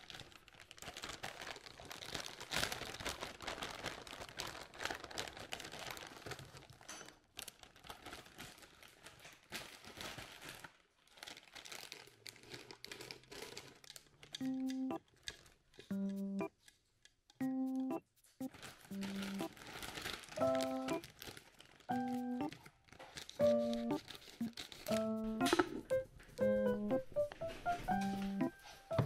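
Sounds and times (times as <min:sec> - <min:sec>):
packaging crinkling and rustling: 0:00.0 - 0:15.9, 0:18.5 - 0:26.4.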